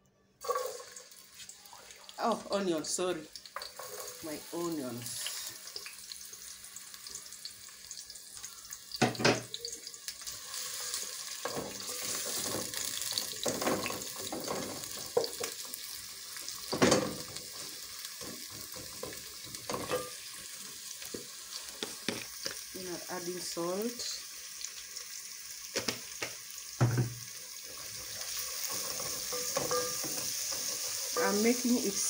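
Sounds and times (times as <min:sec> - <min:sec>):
onions sizzling in hot oil: 0:00.4 - 0:32.0.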